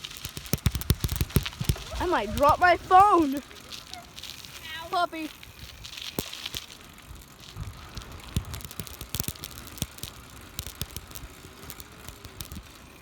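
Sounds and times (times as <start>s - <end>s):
rolling tyres hissing: 0.0s - 13.0s.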